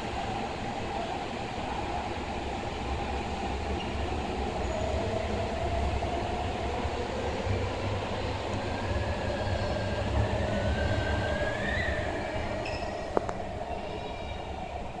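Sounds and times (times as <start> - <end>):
rising train whine: 0.0 - 15.0.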